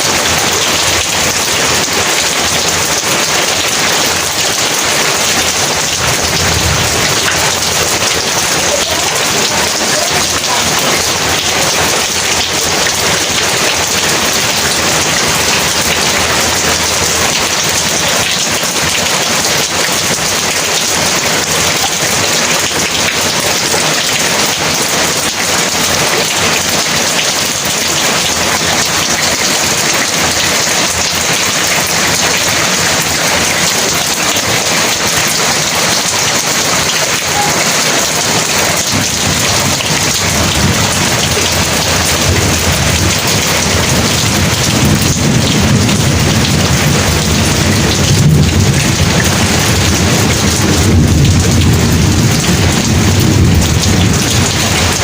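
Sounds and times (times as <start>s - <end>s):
heavy rain: 0.0s - 55.0s
thunder rumbling: 0.0s - 55.0s.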